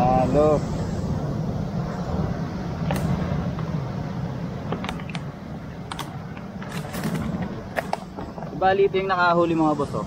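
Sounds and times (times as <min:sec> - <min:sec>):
wind: 0:00.0 - 0:10.0.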